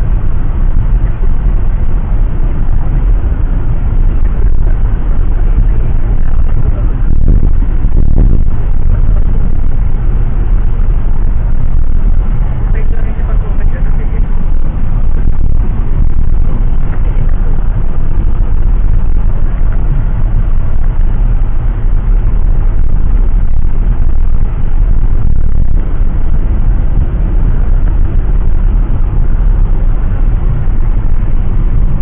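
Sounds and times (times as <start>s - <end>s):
loud vehicle rumble from inside: 0.0s - 32.0s.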